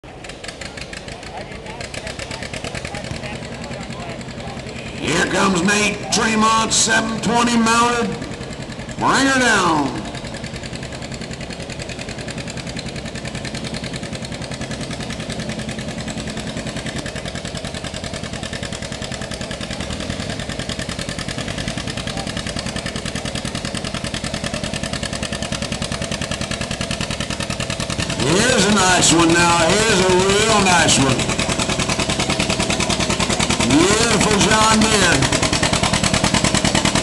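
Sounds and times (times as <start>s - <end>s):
tractor engine working under load: 0.0s - 37.0s.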